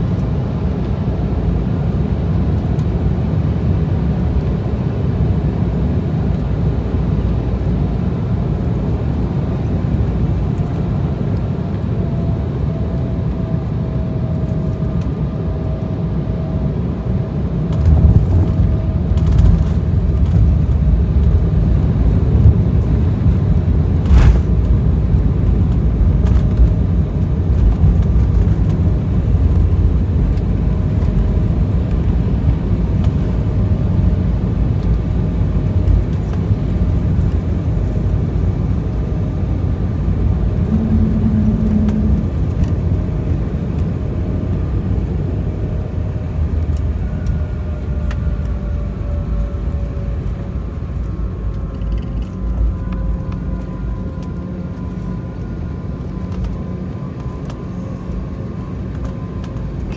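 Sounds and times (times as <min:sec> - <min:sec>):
jet engine and airflow rumble: 0:00.0 - 0:59.9
faint whine: 0:02.4 - 0:59.9.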